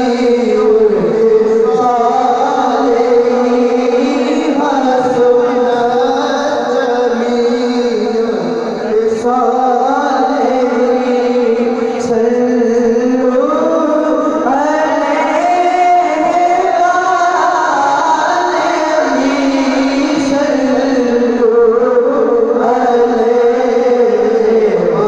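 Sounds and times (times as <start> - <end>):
men singing into microphones: 0.0 - 25.0.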